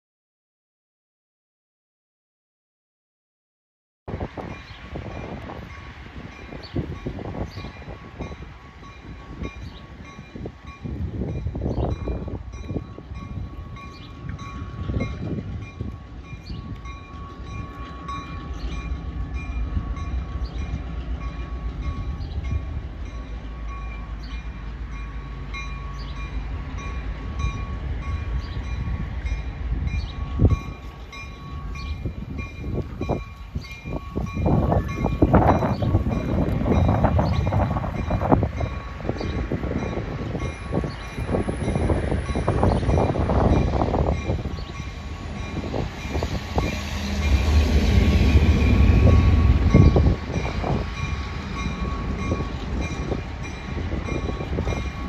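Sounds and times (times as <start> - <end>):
diesel locomotive engine rumbling: 4.1 - 55.0.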